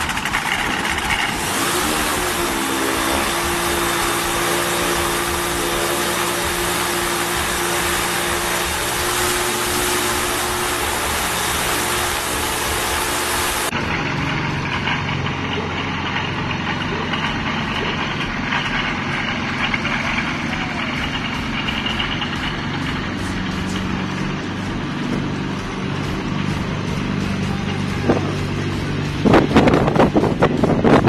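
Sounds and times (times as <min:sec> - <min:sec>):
light aircraft engine running: 0:00.0 - 0:31.0.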